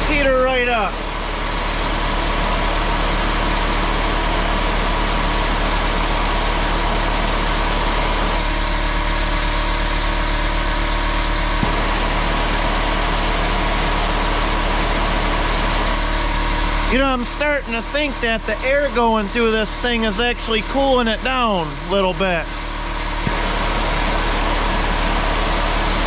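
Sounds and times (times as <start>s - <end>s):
lower machine tone: 0.0s - 26.0s.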